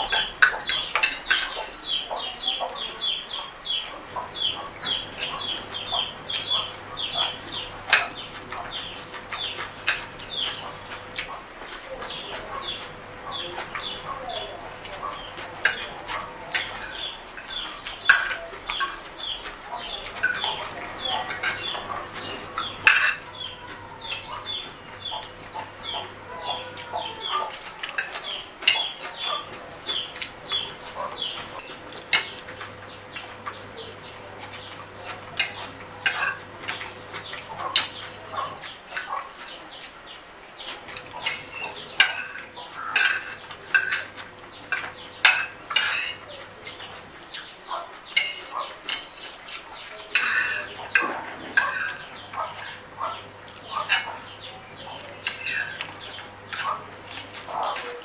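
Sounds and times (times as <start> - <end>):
chewing and lip-smacking: 0.0 - 58.0.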